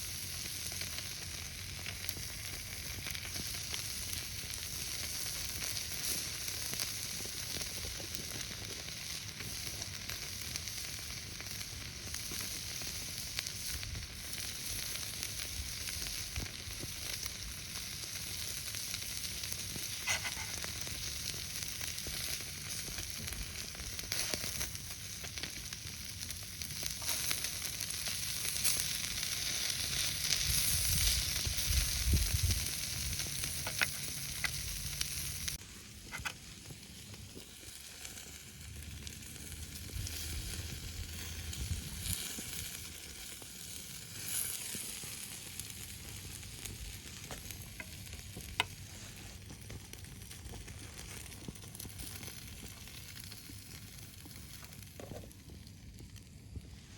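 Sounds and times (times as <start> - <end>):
steak sizzling on a griddle: 0.0 - 55.5.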